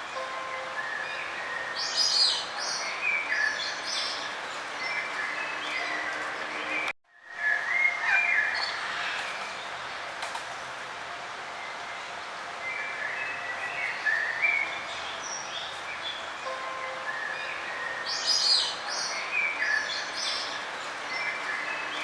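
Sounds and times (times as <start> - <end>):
songbirds chirping: 0.0 - 22.0
steady outdoor hiss: 0.0 - 22.0.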